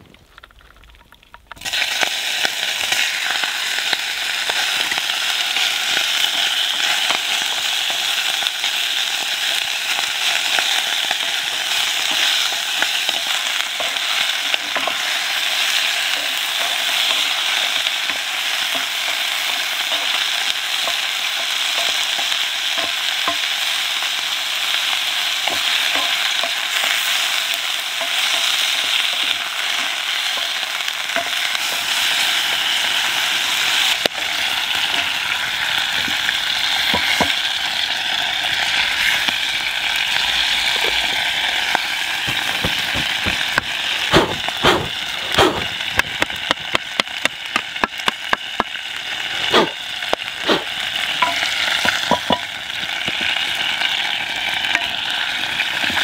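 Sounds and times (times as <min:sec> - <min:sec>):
meat sizzling in oil: 0:01.6 - 0:56.0.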